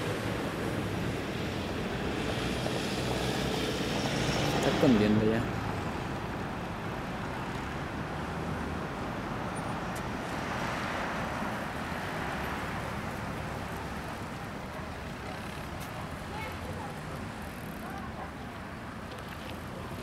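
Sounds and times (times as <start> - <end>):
distant road traffic hum: 0.0 - 20.0
vehicle passing: 0.0 - 20.0.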